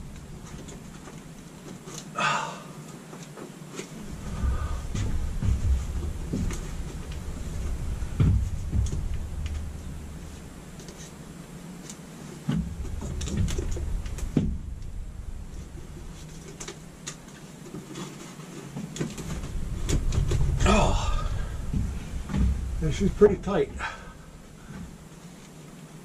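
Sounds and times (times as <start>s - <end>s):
dull low thuds: 0.0s - 1.6s, 3.9s - 17.3s, 18.8s - 25.2s
knocks clicks and scrapes of hardware: 3.2s - 25.0s.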